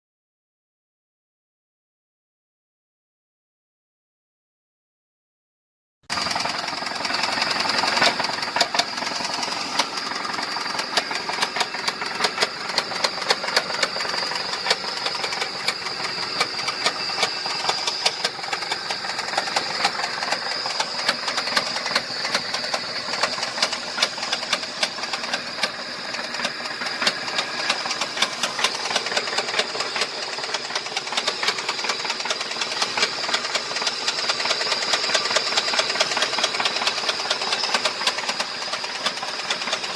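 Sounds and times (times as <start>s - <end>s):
engine running with fast knock: 6.1s - 39.9s.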